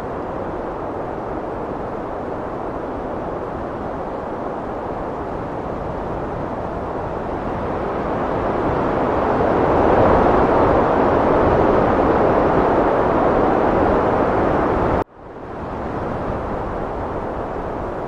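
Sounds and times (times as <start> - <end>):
heavy wind roaring: 0.0 - 18.0.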